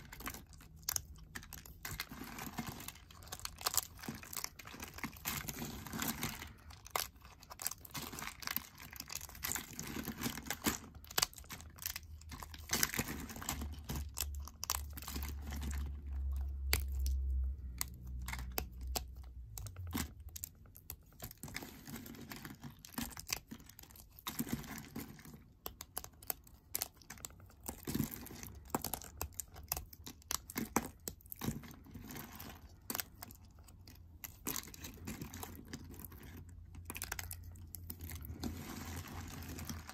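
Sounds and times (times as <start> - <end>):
soap slices crackling and crunching: 0.0 - 39.9.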